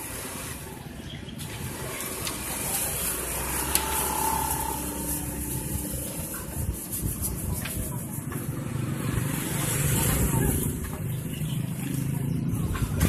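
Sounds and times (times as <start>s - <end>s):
vehicle engine running: 1.6s - 13.0s.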